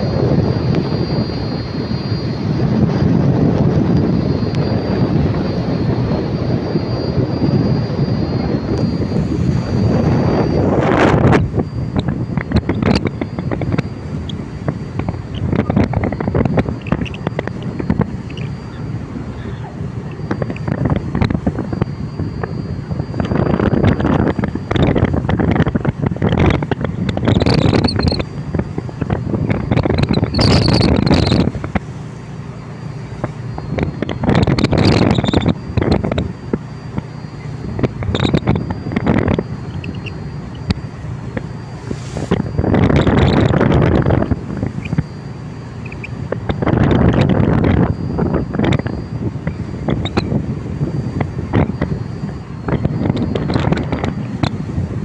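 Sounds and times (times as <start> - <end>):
tugboat engine running: 0.0 - 55.0
wind buffeting microphone: 0.0 - 55.0.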